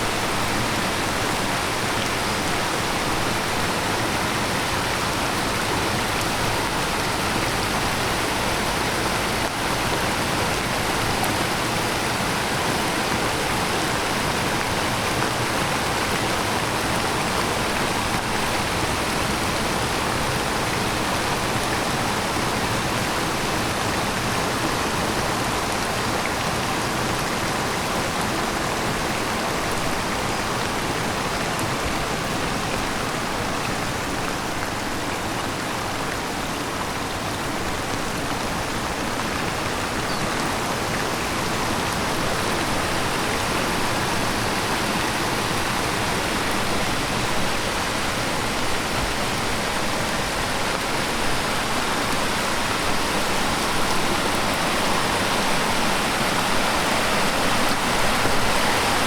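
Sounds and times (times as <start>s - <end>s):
heavy rain pouring: 0.0s - 59.0s
stream rushing: 0.0s - 59.0s.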